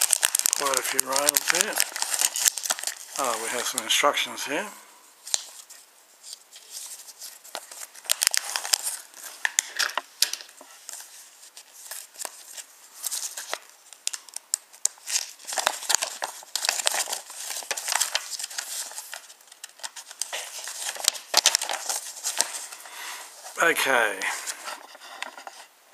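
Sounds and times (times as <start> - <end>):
paper crinkling: 0.0 - 4.6, 5.2 - 25.7.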